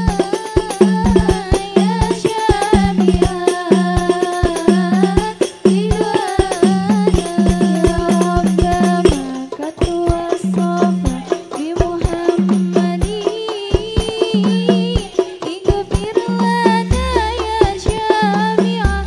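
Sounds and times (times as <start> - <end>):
frame drums playing: 0.0 - 19.0
women singing devotional melody: 0.0 - 19.0.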